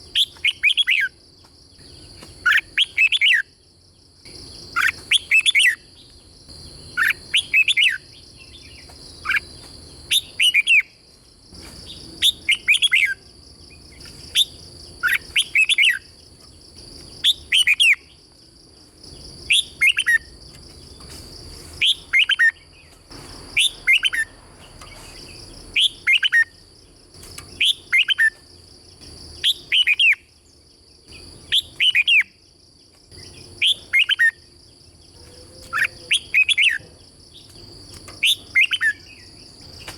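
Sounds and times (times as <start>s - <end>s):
bulbul singing: 0.0s - 1.2s, 1.8s - 11.0s, 11.8s - 18.3s, 19.1s - 21.2s, 21.8s - 39.9s.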